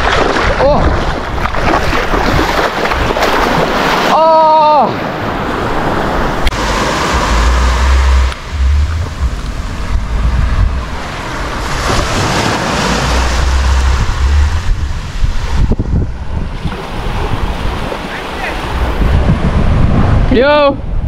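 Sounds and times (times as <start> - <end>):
wind buffeting microphone: 0.0 - 4.0, 5.5 - 21.0
surf washing onto shore: 0.0 - 20.4.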